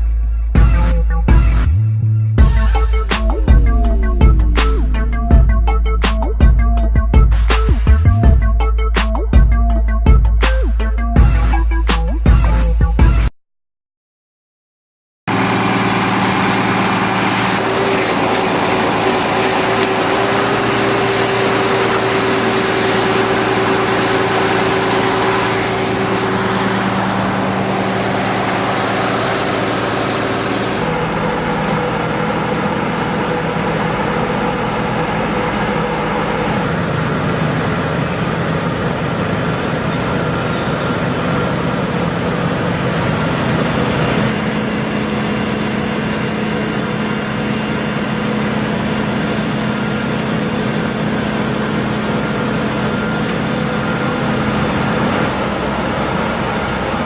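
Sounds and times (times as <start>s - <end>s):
heavy machinery engines running: 0.0s - 13.3s, 15.3s - 57.0s.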